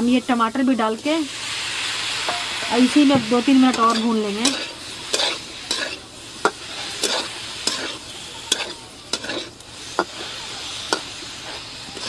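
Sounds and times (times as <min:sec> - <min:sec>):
onions sizzling: 0:00.0 - 0:12.0
metal spatula scraping a pan: 0:02.2 - 0:12.0.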